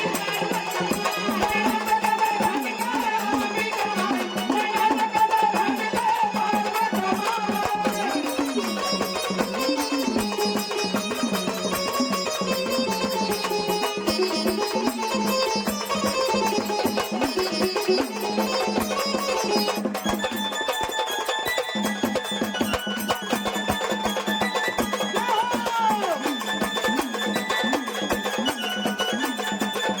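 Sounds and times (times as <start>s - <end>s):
hand percussion: 0.0s - 30.0s.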